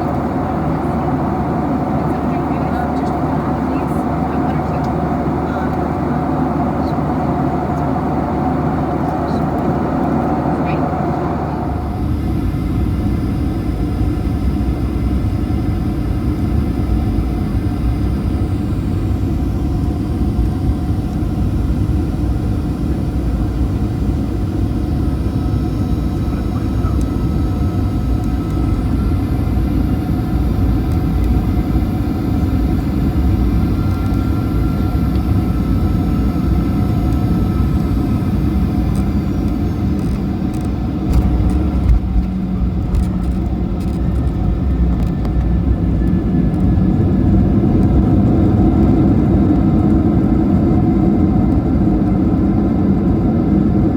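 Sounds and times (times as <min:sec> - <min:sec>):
airplane cabin airflow and engine: 0:00.0 - 0:53.9.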